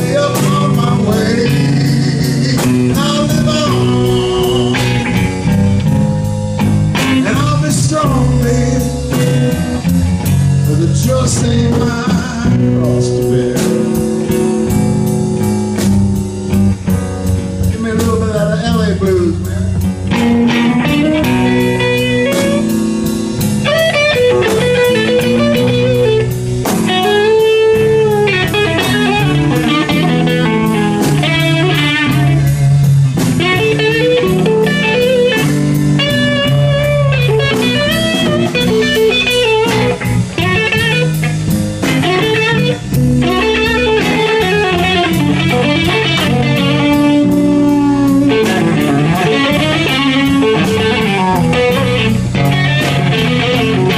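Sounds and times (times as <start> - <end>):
blues band playing: 0.0 - 53.9
electric guitar lead lines: 0.0 - 53.9
steady drum beat: 0.0 - 53.9.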